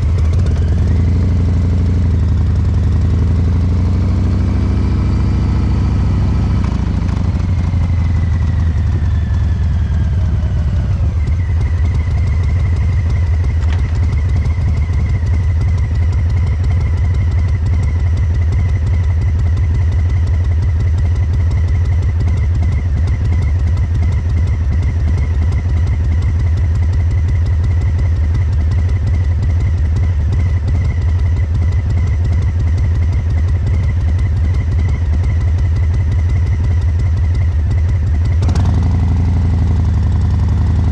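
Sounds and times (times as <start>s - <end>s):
motorcycle engine loping idle: 0.0s - 40.9s.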